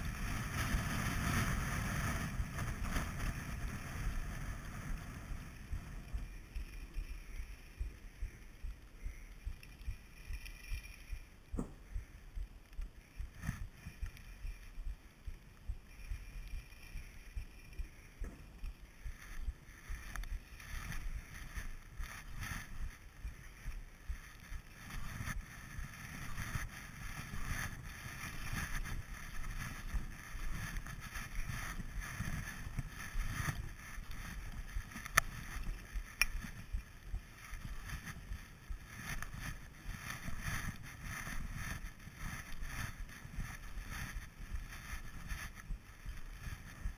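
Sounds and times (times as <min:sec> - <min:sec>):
skis sliding over snow: 0:00.0 - 0:46.9.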